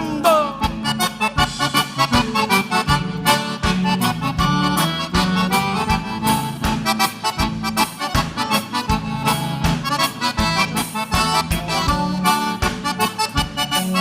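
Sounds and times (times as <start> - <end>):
dance band playing: 0.0 - 14.0
piano accordion: 0.0 - 14.0.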